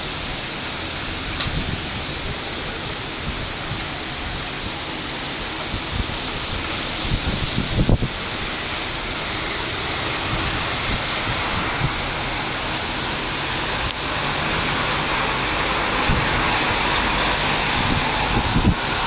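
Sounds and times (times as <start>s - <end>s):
strong storm wind rushing: 0.0s - 19.0s
wind buffeting microphone: 0.0s - 19.0s.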